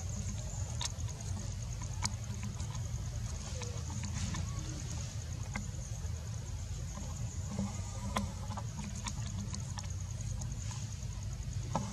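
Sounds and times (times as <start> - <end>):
faint clicks and rustles: 0.0 - 11.9.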